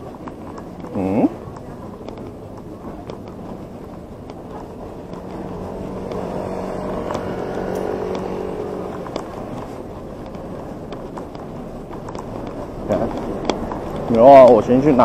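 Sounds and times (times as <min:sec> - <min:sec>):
motorbike engine running: 0:00.0 - 0:15.0
street traffic: 0:00.0 - 0:15.0.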